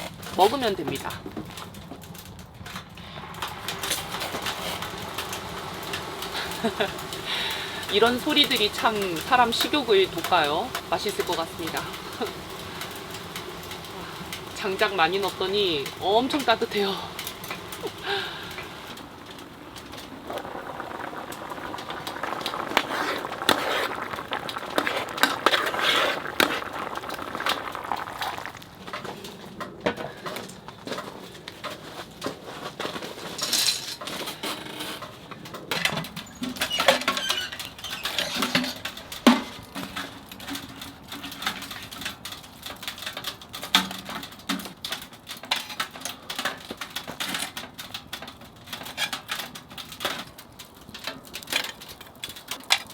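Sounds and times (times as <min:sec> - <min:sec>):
pot bubbling: 0:00.0 - 0:34.4, 0:35.0 - 0:52.9
firewood crackling and popping: 0:00.0 - 0:52.9.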